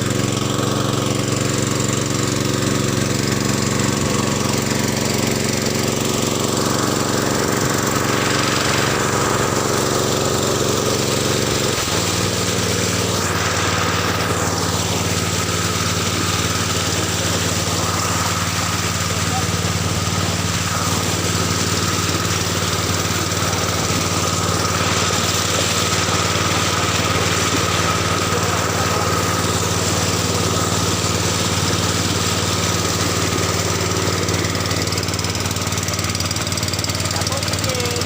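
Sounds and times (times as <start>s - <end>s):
generator engine running: 0.0s - 38.0s.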